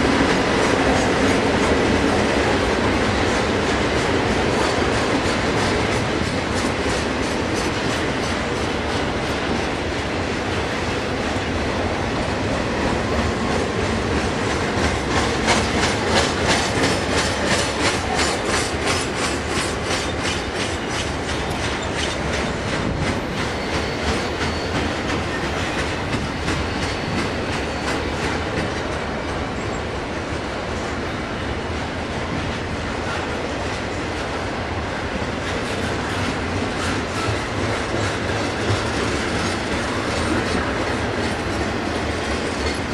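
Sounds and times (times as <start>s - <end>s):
train wheels clicking over rail joints: 0.0s - 30.9s, 31.8s - 42.9s.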